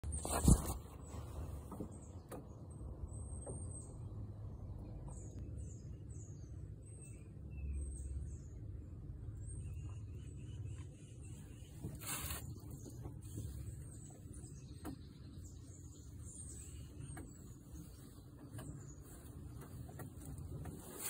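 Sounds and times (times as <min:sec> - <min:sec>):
small birds calling: 0:00.0 - 0:21.0.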